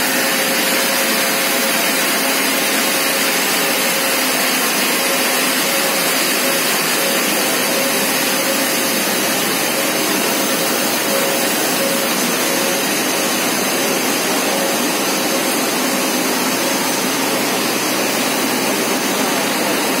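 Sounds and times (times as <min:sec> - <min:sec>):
machinery whirring hiss: 0:00.0 - 0:20.0.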